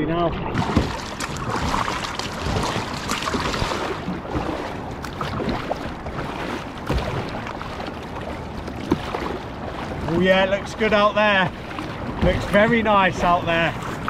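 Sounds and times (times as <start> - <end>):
paddle splashing in water: 0.5 - 14.0
water washing past hull: 0.5 - 14.0.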